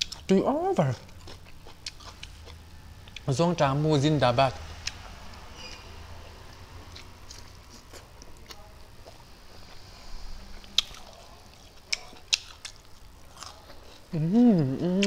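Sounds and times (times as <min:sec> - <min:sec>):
person chewing food: 0:00.0 - 0:00.3, 0:01.0 - 0:03.3, 0:04.8 - 0:05.0, 0:05.6 - 0:15.0.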